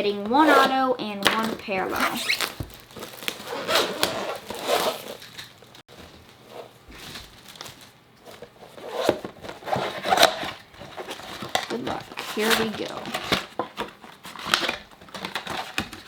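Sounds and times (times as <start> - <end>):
plastic wrap crinkling: 1.1 - 16.0.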